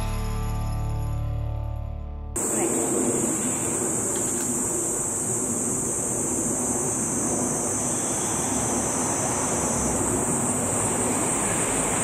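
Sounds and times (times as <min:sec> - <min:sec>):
cicadas droning: 0:02.4 - 0:12.0
low rushing background noise: 0:02.4 - 0:12.0.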